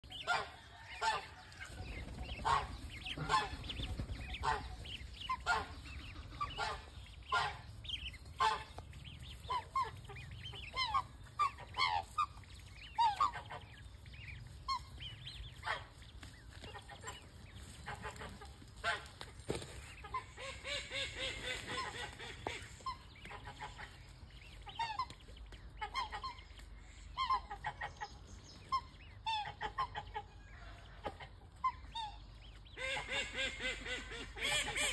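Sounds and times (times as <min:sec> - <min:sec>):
swans calling: 0:00.0 - 0:19.1, 0:20.0 - 0:34.9.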